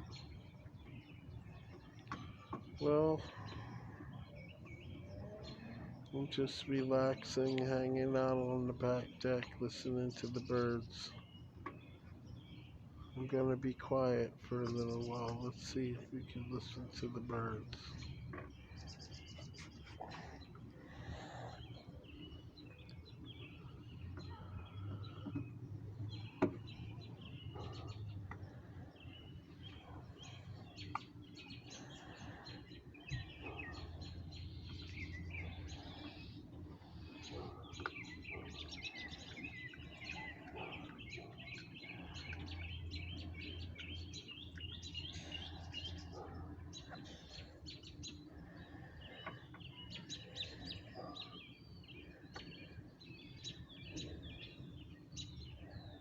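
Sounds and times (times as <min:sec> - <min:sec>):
low steady hum: 0:00.0 - 0:56.0
wild birds chirping and singing: 0:00.0 - 0:56.0.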